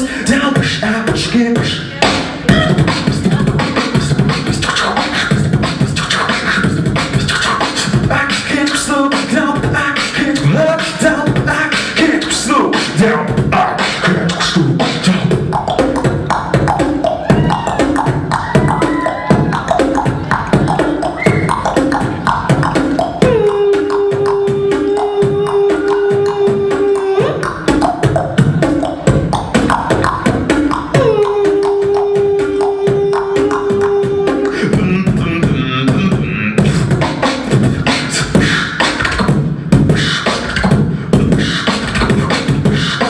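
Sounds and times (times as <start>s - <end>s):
beatboxing through a microphone: 0.0s - 43.0s.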